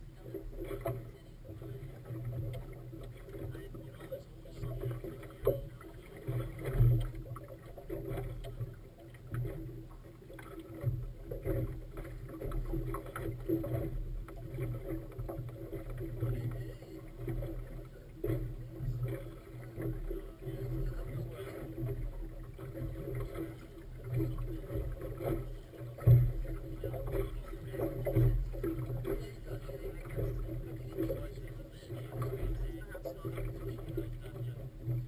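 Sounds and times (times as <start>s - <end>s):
low boat engine hum: 0.0s - 35.0s
water slapping against hull: 0.0s - 35.0s.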